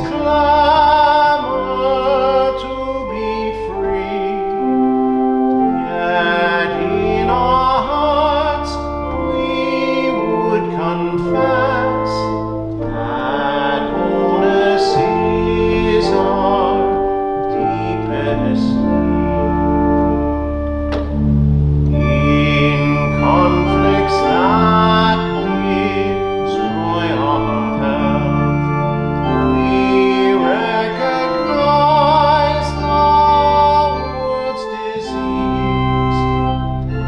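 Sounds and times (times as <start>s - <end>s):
person singing with vibrato: 0.0s - 20.1s, 21.9s - 37.0s
organ playing a hymn: 0.0s - 37.0s.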